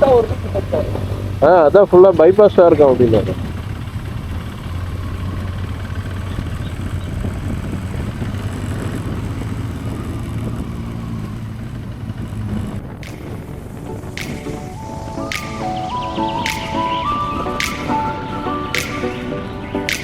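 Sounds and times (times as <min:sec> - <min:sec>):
motorcycle engine cruising: 0:00.0 - 0:20.0
wind and road noise: 0:00.0 - 0:20.0.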